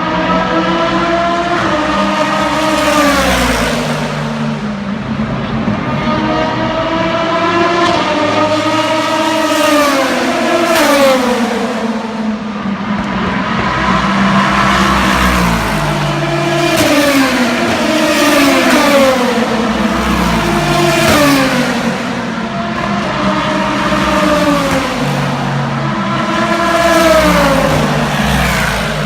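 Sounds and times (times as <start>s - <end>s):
race cars passing: 0.0s - 29.0s.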